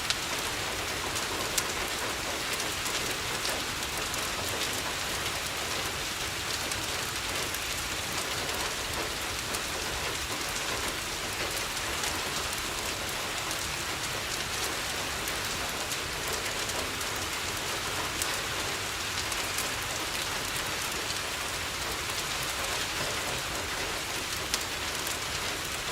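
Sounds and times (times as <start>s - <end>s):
rain on a window: 0.0s - 25.9s.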